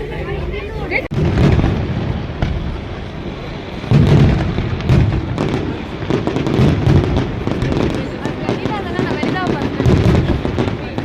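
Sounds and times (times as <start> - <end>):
fireworks crackling: 0.9 - 11.0
firework booms: 1.1 - 11.0.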